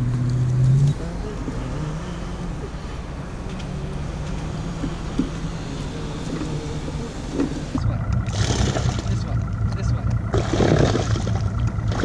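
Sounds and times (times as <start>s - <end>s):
motor vehicle engine drone: 0.0s - 12.0s.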